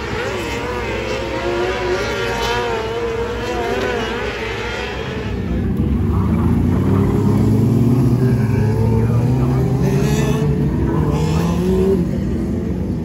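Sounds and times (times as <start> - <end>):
lower louder engine: 0.0 - 13.0
racing engines revving: 0.0 - 13.0.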